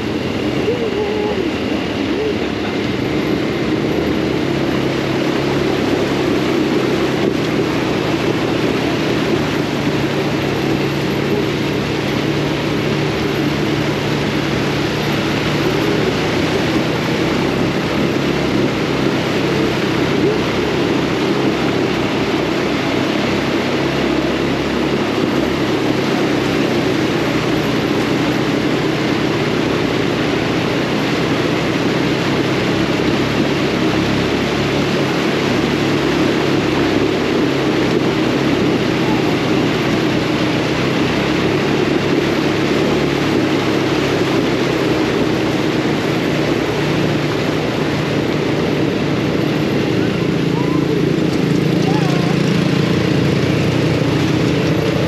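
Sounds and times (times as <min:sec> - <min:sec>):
off-road buggy engine droning: 0:00.0 - 0:55.0.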